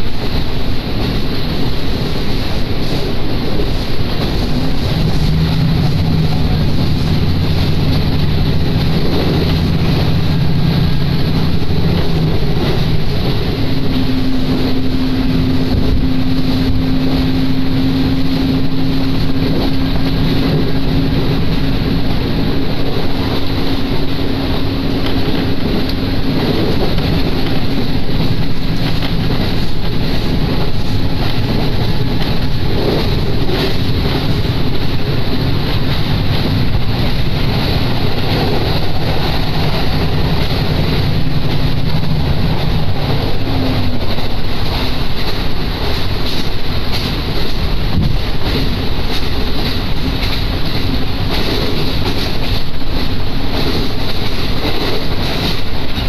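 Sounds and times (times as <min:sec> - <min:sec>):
railcar engine drone: 0:00.0 - 0:56.0
wheel rail and wind noise: 0:00.0 - 0:56.0.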